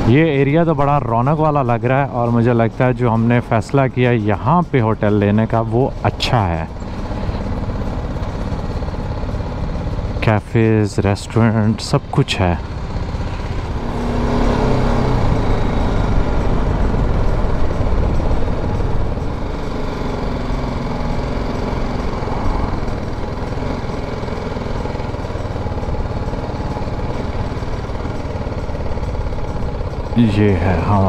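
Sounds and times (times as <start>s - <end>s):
motorcycle engine running: 0.0s - 31.0s
road and wind noise: 0.0s - 31.0s.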